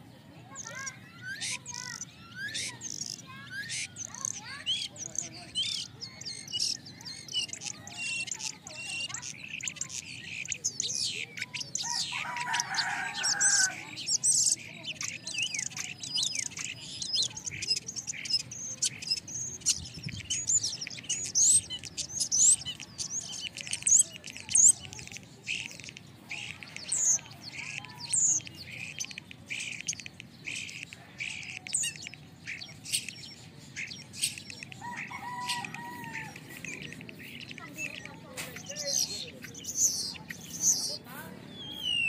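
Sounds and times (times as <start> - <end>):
songbirds chirping and whistling: 0.0 - 42.0.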